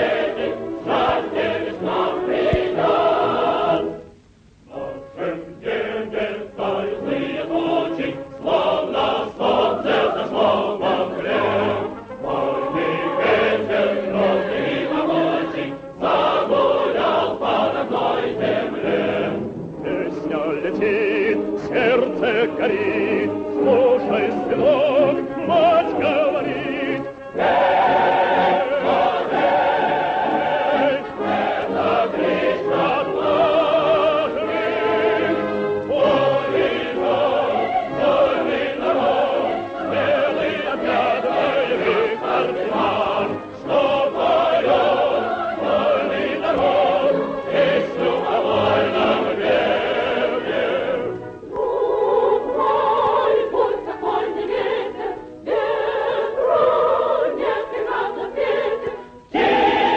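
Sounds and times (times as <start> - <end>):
choir singing operatically: 0.0 - 59.9.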